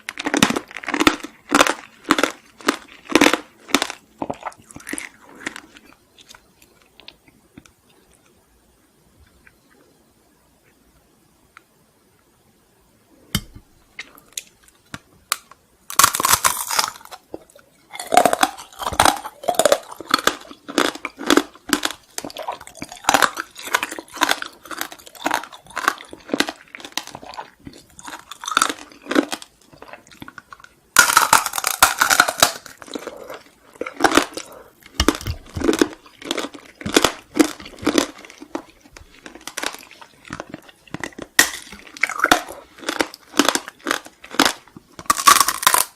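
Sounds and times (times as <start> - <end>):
crunchy chewing of hard sweet: 0.0 - 8.4, 13.4 - 45.9.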